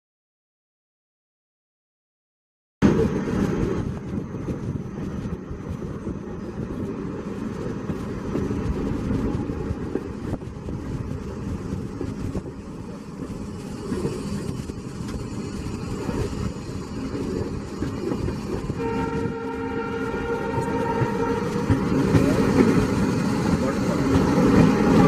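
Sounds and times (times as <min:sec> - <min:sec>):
moving train rolling noise: 0:02.8 - 0:25.0.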